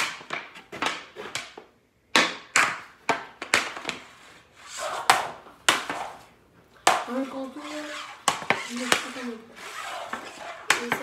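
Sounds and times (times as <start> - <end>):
hockey stick hitting puck: 0.0 - 11.0.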